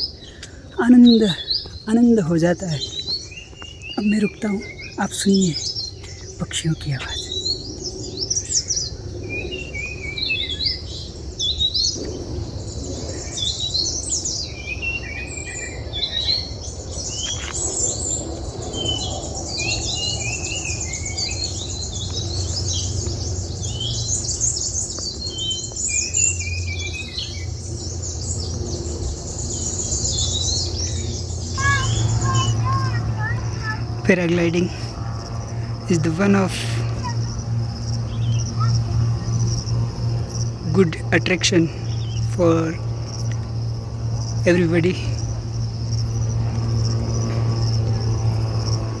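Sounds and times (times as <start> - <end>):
wild birds chirping: 0.0 - 49.0.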